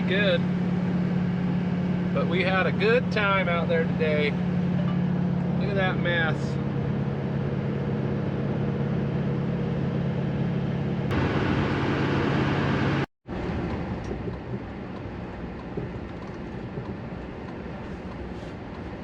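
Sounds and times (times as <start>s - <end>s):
road and tyre noise: 0.0s - 19.0s
vehicle engine drone: 0.0s - 19.0s.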